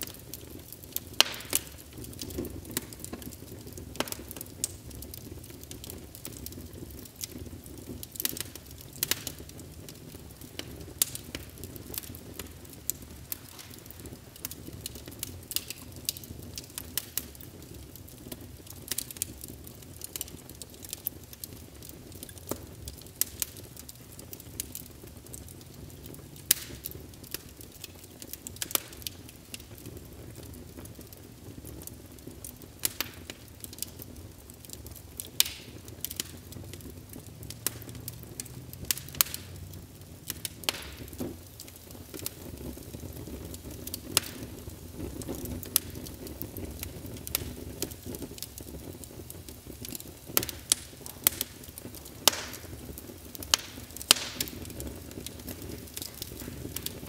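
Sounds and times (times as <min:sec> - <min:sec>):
fire crackling: 0:00.0 - 0:57.0.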